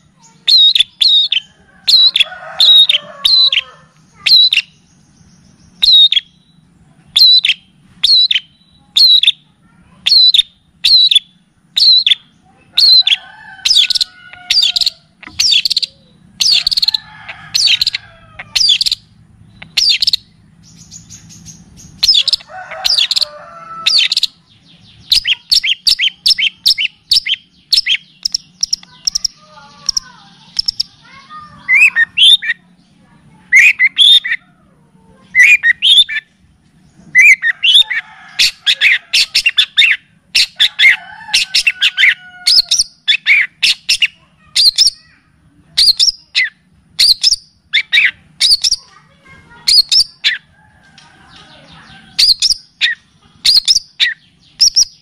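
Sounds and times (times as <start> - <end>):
songbird chirps and whistles: 0.2 - 32.6, 33.5 - 34.4, 35.3 - 36.4, 37.0 - 45.2, 45.8 - 50.5, 51.2 - 55.0.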